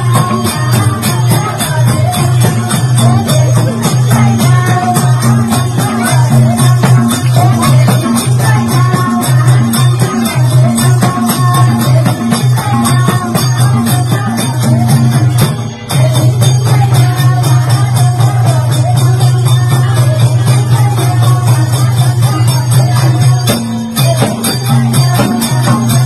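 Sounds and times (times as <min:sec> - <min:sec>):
jingling percussion: 0:00.0 - 0:26.0.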